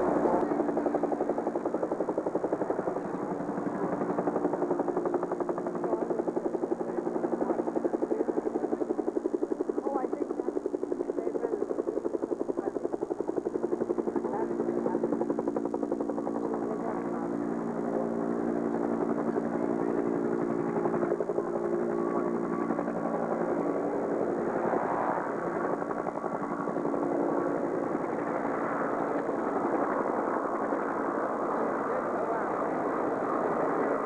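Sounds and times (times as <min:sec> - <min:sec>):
droning engine: 0:00.0 - 0:34.0
helicopter rotor blades beating: 0:00.0 - 0:34.0.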